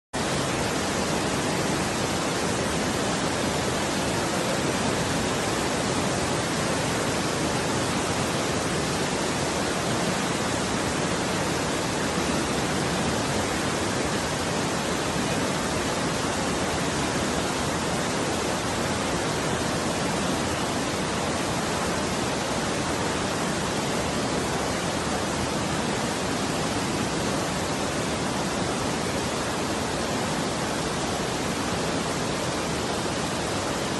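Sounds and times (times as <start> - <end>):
floodwater rushing: 0.2 - 33.9.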